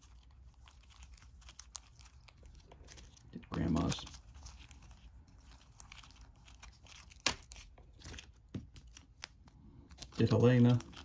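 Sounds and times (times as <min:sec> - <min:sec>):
cards rustling: 0:00.0 - 0:11.0.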